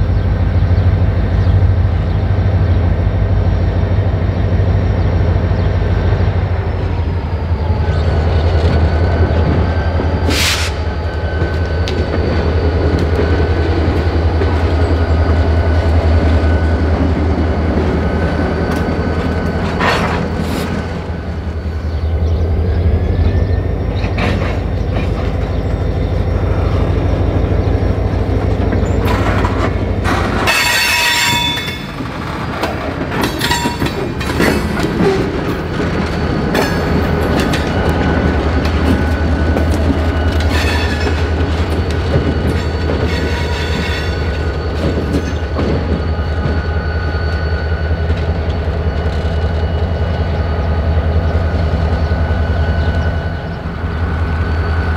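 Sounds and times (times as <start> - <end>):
locomotive engine drone: 0.0 - 54.9
train cars clanking: 0.0 - 54.9
wheels squealing on rails: 0.0 - 54.9.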